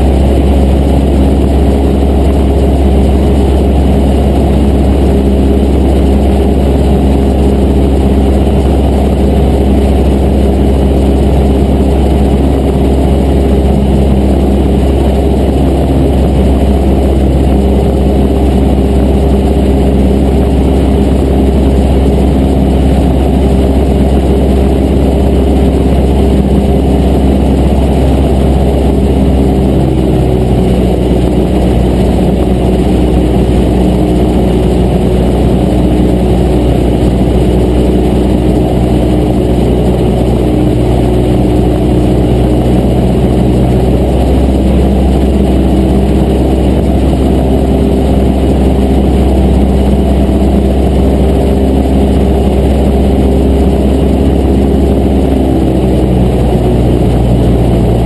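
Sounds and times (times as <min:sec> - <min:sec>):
propeller aircraft engine droning: 0:00.0 - 0:58.0.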